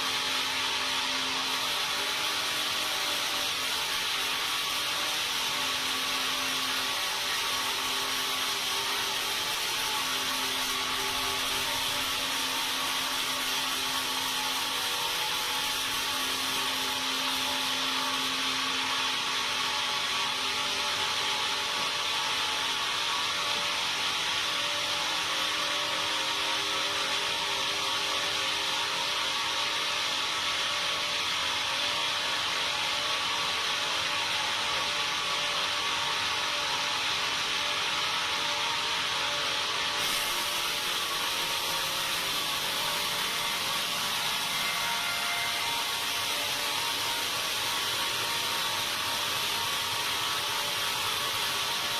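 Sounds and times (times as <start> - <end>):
sawmill saw cutting timber: 0.0 - 51.9.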